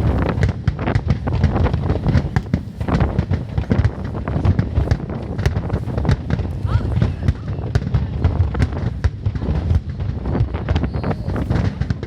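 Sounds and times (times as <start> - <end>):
fireworks bangs and crackles: 0.0 - 12.0
wind on microphone: 0.0 - 12.0.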